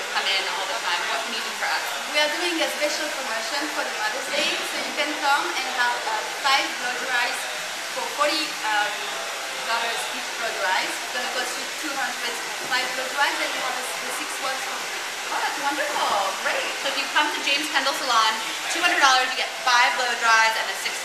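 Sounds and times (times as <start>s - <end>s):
women talking: 0.0s - 8.9s, 9.7s - 21.0s.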